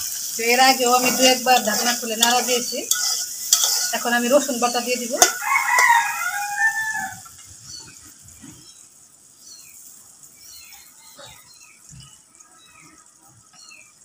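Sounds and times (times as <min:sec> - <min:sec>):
oil sizzling in a wok: 0:00.0 - 0:14.0.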